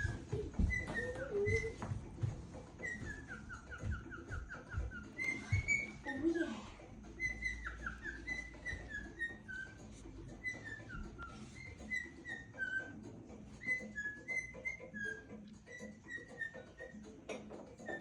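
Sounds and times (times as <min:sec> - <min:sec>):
cockatiel whistling: 0:00.0 - 0:18.0.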